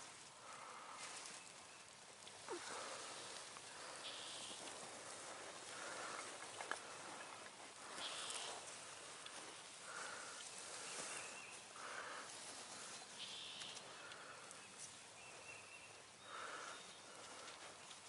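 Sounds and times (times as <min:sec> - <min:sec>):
bird calls: 0:00.0 - 0:18.0
small birds chirping: 0:00.0 - 0:18.0.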